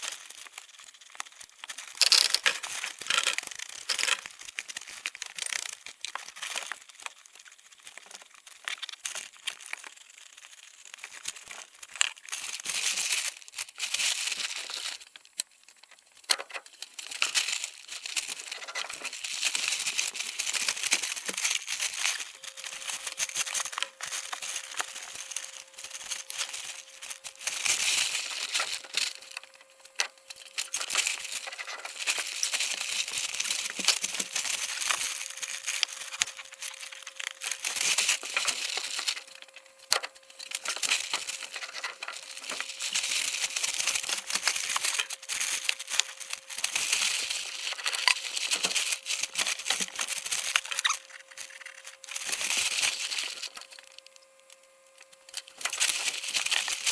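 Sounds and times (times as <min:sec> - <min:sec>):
faint steady hum: 0:00.0 - 0:56.9
rustling and scraping in dirt: 0:00.0 - 0:56.9.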